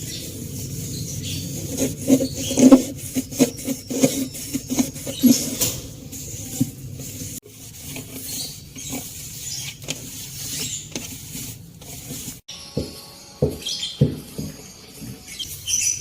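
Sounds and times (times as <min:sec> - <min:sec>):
rubbing and scrubbing: 0:00.0 - 0:15.8.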